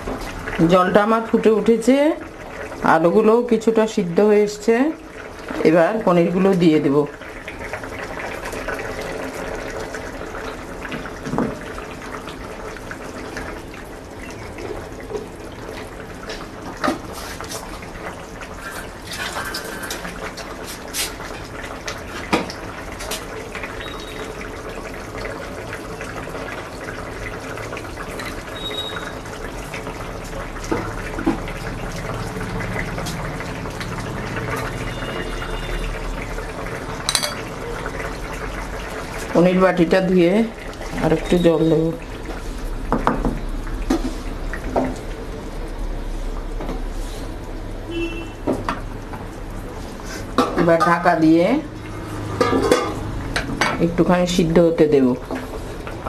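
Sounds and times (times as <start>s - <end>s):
curry bubbling in a pan: 0.0s - 56.0s.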